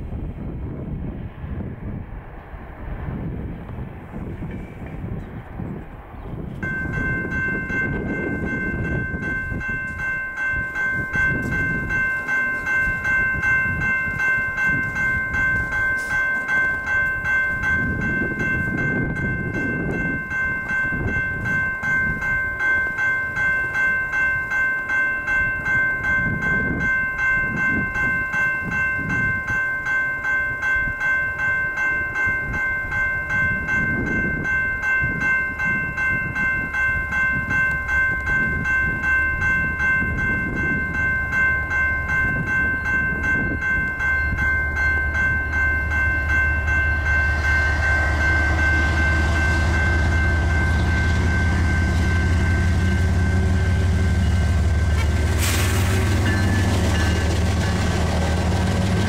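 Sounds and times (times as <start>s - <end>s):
diesel locomotive engine drone: 0.0s - 59.0s
train wheels rumbling: 0.0s - 59.0s
crossing bell ringing: 6.5s - 59.0s.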